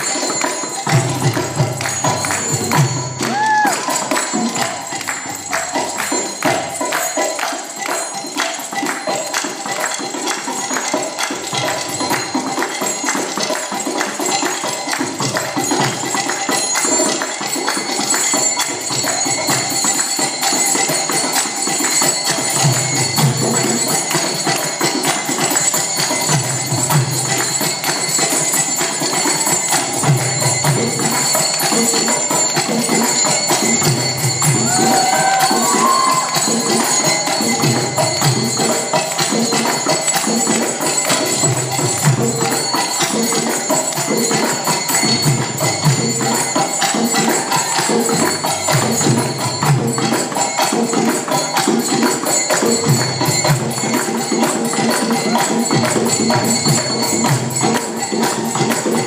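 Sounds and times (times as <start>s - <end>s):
fast hand drumming: 0.0s - 59.0s
jingling hand percussion: 0.0s - 59.0s.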